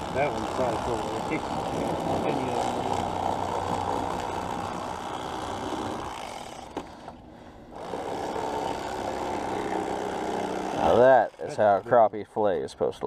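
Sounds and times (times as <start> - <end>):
electric knife buzzing: 0.0 - 12.0.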